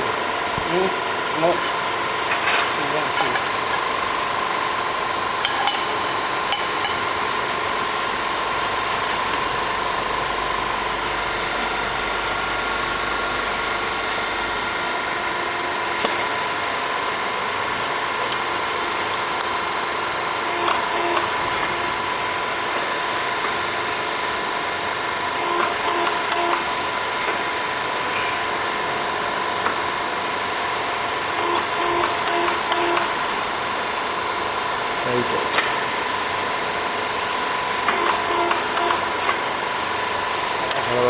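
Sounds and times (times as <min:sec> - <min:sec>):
workshop machinery whining: 0:00.0 - 0:41.0.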